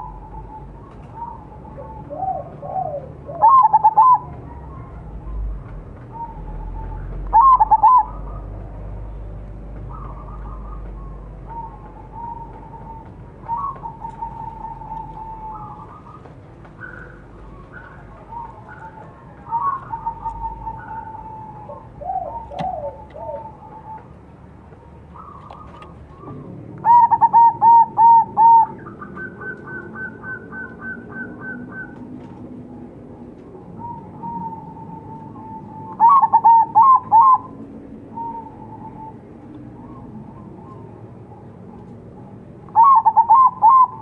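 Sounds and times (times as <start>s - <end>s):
dove cooing loudly: 0.0s - 5.4s, 6.1s - 8.6s, 9.9s - 24.2s, 25.0s - 32.1s, 32.7s - 44.0s
soft coos of other doves: 0.0s - 8.6s, 9.9s - 24.2s, 25.1s - 41.0s, 42.7s - 44.0s.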